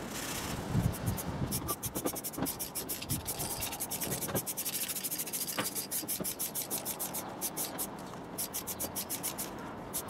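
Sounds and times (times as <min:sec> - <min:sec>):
aerosol spray can hissing: 0:00.9 - 0:10.0.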